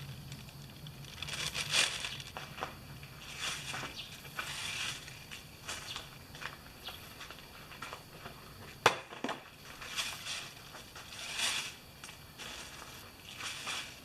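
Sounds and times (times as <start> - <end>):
crunching and rustling: 0.0 - 14.0.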